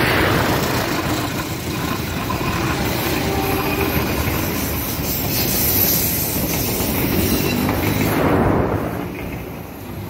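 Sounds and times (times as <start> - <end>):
train wheels rumbling over rails: 0.0 - 10.0.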